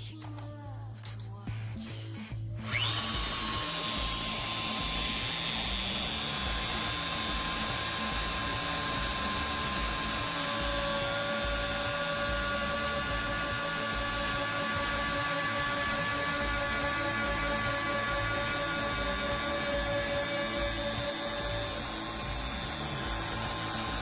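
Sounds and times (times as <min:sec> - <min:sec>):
electric router motor whining: 0:02.6 - 0:24.0
lower motor tone: 0:02.6 - 0:24.0.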